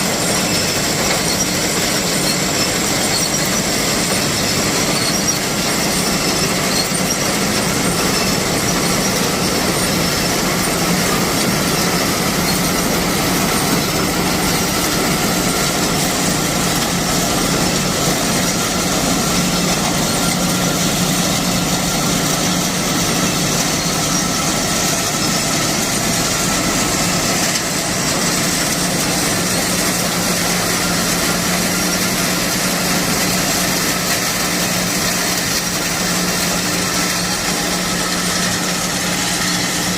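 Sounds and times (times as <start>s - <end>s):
harvesting machine humming and rattling: 0.0s - 39.9s.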